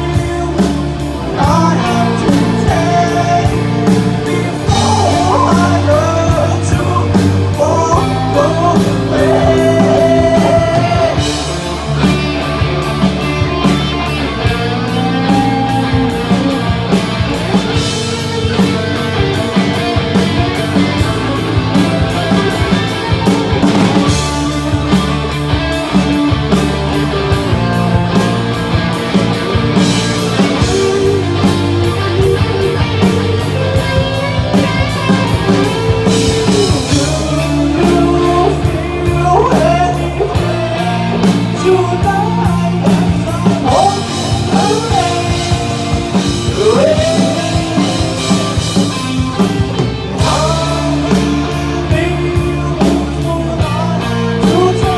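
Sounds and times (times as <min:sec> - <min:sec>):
drum kit: 0:00.0 - 0:54.9
electric guitar lead bending notes: 0:00.0 - 0:54.9
rock band playing live: 0:00.0 - 0:54.9.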